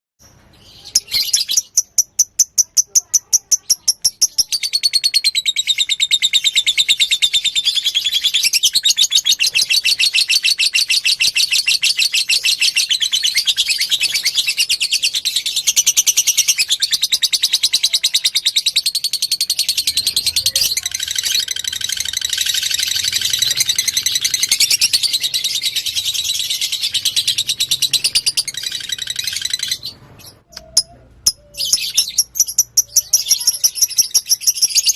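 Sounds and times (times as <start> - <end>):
lovebird chirping and trilling: 0.2 - 34.9.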